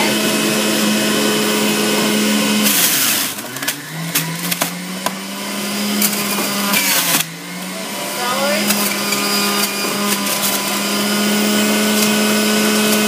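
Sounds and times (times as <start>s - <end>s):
juicer motor humming: 0.0s - 13.0s
cabbage shredding: 0.8s - 13.0s.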